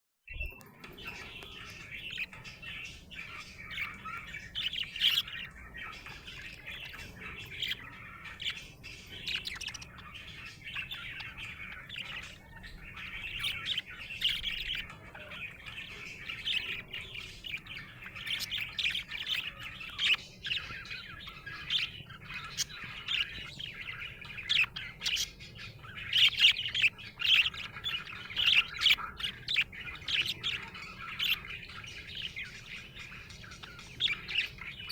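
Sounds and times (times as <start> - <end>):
budgie chattering: 0.7 - 34.9.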